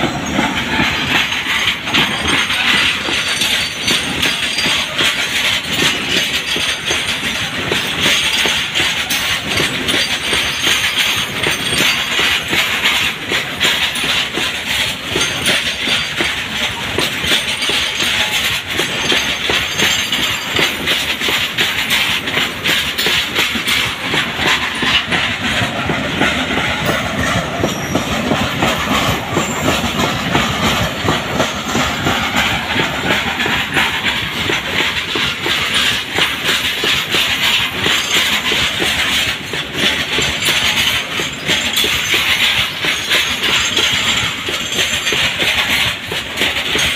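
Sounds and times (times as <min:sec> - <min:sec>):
train wheels on rails: 0:00.0 - 0:46.9
wheels clattering over rail joints: 0:00.0 - 0:46.9.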